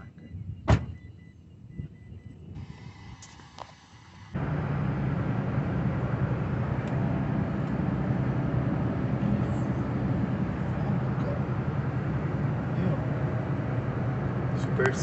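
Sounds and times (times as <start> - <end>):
road noise: 0.0 - 15.0
wind rushing through car window: 0.0 - 15.0.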